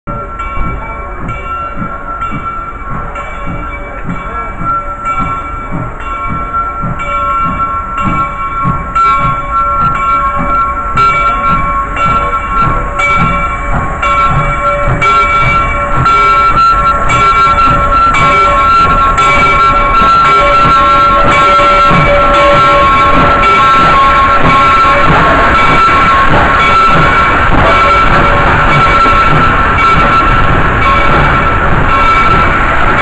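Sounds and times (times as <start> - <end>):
locomotive bell ringing: 0.1 - 33.0
steam locomotive exhaust chuffs: 0.1 - 33.0.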